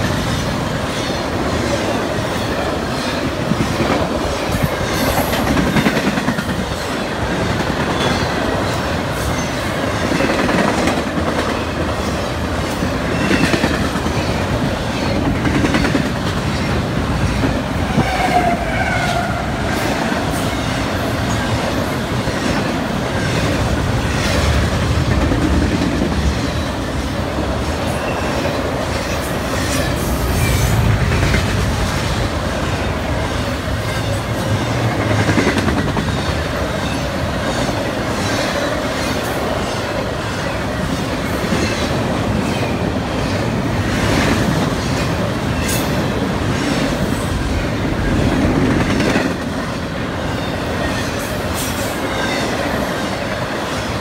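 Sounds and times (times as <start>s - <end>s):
clickety-clack of wheels on rails: 0.0s - 54.0s
freight train rumbling past: 0.0s - 54.0s.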